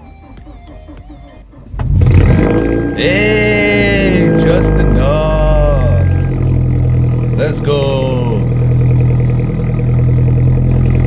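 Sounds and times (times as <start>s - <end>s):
car engine starting and running: 0.0s - 11.0s.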